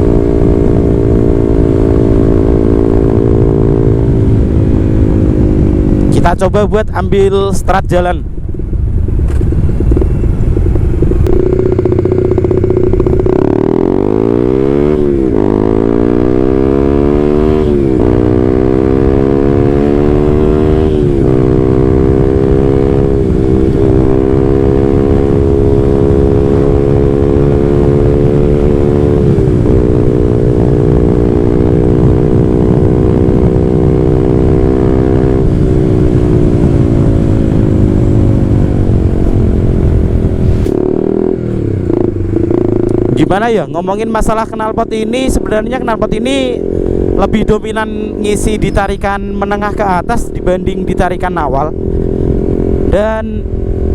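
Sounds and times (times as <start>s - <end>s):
motorcycle engine accelerating: 0.0s - 7.6s, 8.4s - 53.9s.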